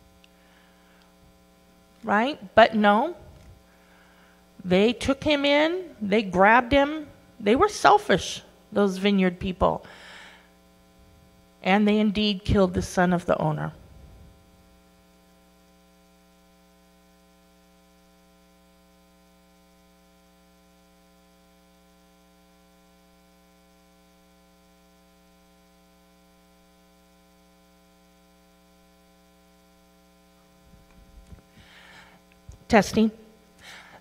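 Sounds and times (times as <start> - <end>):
electrical mains hum: 0.0 - 34.0.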